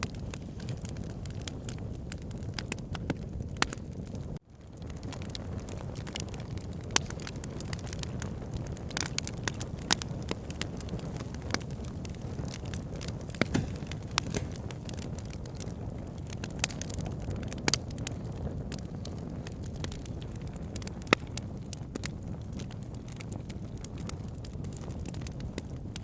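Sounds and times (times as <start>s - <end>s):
burning logs crackling and popping: 0.0s - 26.0s
fire rumbling and hissing: 0.0s - 26.0s.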